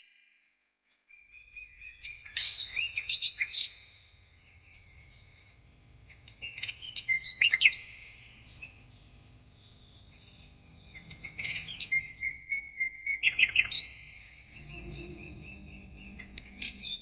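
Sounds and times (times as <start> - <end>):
birds chirping and twittering: 1.1 - 17.0.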